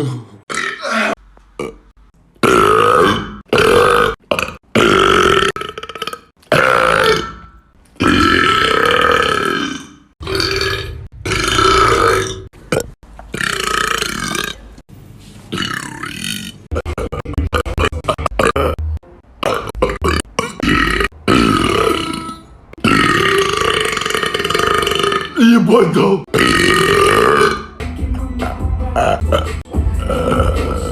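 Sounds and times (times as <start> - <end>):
man burping loudly: 0.0 - 14.6, 15.6 - 25.6, 26.2 - 27.8, 29.0 - 30.9.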